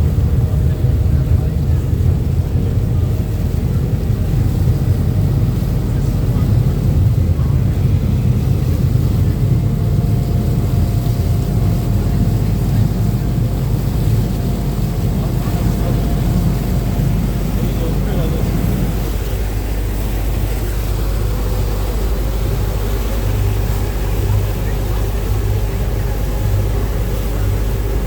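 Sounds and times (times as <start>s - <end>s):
boat engine rumble: 0.0s - 28.0s
water rushing: 2.4s - 28.0s.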